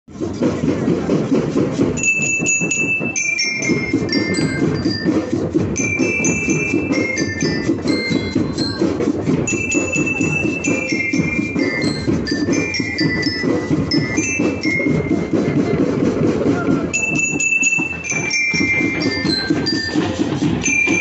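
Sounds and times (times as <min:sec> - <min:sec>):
band percussion: 0:00.1 - 0:21.0
bell lyres melody: 0:00.2 - 0:21.0.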